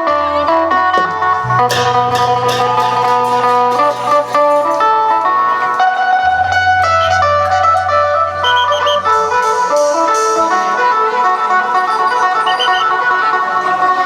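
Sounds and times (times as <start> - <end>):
held bass notes: 0.0 - 14.0
plucked lute fast melody: 0.0 - 14.0
sharp percussion hits: 0.8 - 14.0.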